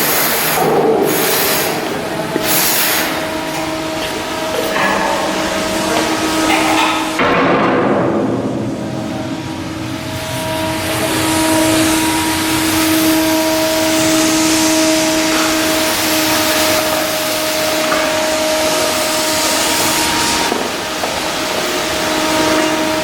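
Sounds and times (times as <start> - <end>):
machinery hiss and whine: 0.0 - 23.0.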